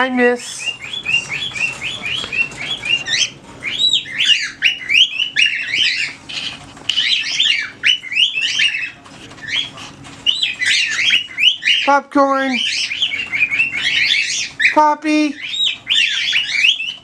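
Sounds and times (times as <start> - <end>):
birds chirping and whistling: 0.4 - 17.0.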